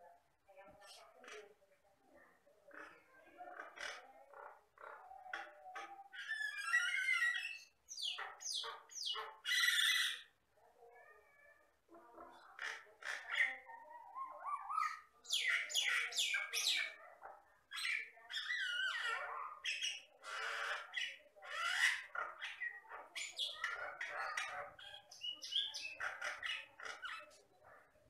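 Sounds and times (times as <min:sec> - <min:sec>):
myna bird singing: 0:02.8 - 0:10.4, 0:12.3 - 0:17.1, 0:17.7 - 0:27.9.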